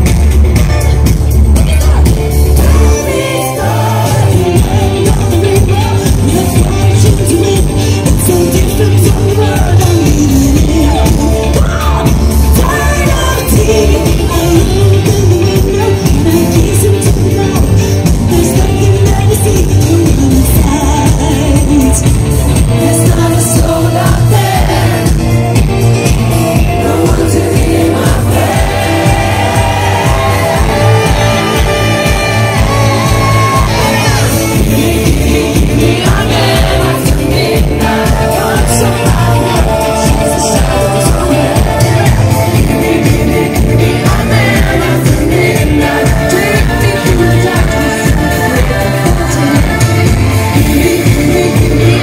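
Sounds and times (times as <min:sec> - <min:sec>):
heavy bass and dance beat: 0:00.0 - 0:52.0
live pop music through speakers: 0:00.0 - 0:52.0
woman singing into microphone: 0:01.6 - 0:25.4, 0:26.0 - 0:52.0.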